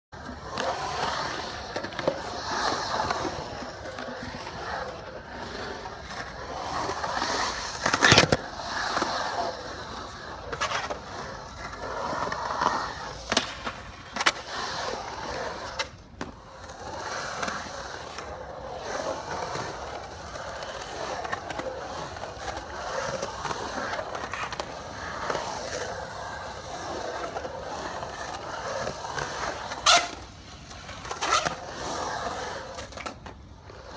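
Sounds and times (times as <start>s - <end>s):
skateboard wheels rolling on concrete: 0.1s - 33.9s.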